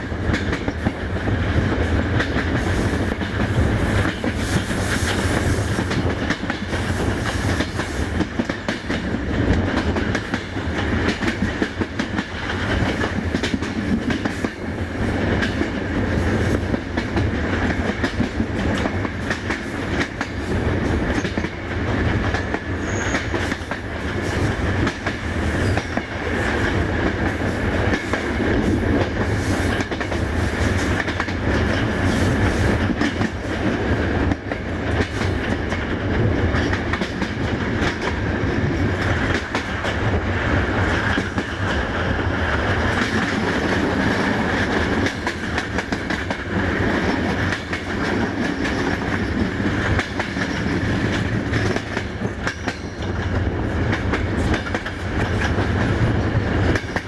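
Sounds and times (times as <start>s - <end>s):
train wheels clacking on rails: 0.0s - 57.0s.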